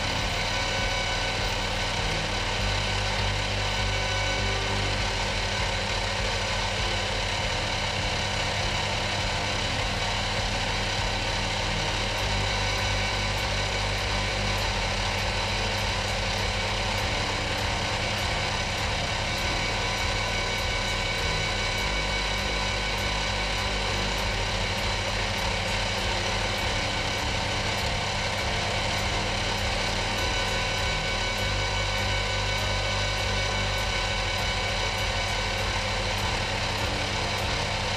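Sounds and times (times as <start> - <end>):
machine tool motor humming: 0.0 - 37.9.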